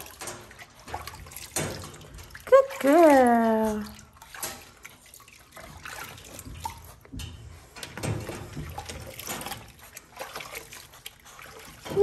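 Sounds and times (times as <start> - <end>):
water splashing in a plastic bin: 0.0 - 12.0.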